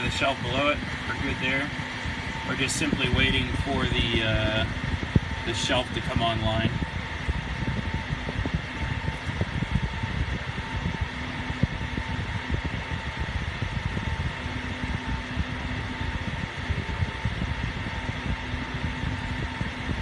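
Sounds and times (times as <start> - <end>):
cooling fans whirring: 0.0 - 20.0
faint constant hum: 0.0 - 20.0.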